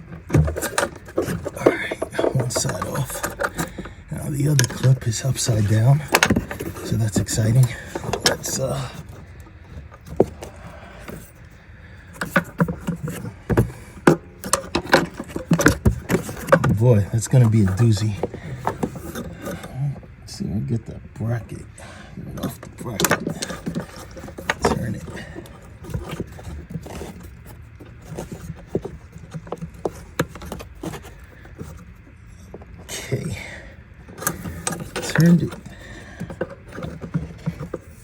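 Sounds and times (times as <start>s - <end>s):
tool clicking and rattling on engine parts: 0.0s - 20.2s, 21.2s - 38.0s.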